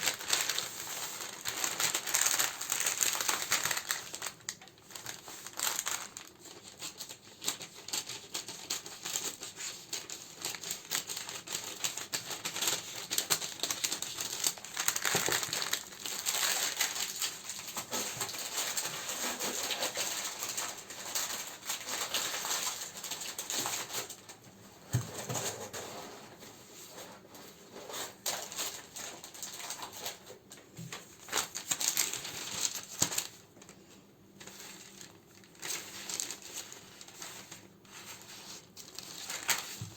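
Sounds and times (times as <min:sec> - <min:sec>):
plastic and paper crinkling: 0:00.0 - 0:39.9.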